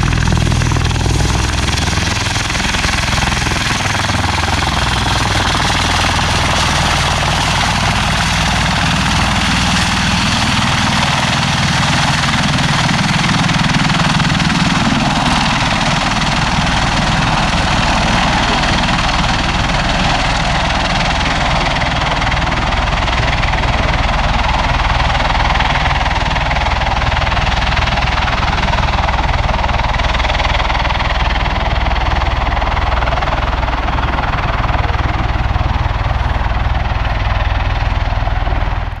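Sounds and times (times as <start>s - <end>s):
rotor blades beating: 0.0s - 38.8s
turbine engine noise: 0.0s - 39.0s.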